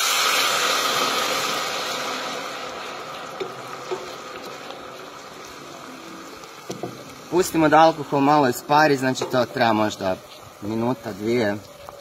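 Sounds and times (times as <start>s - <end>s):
wine sizzling in hot pot: 0.0s - 12.0s.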